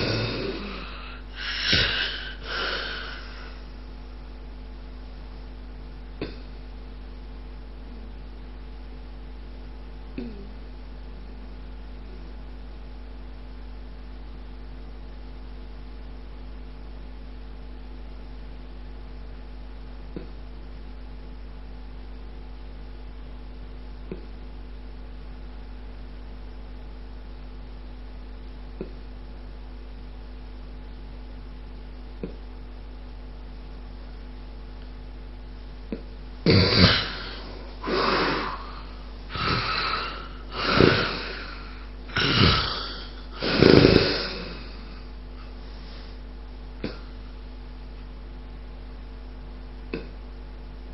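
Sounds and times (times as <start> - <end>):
low electrical hum: 0.0 - 50.9.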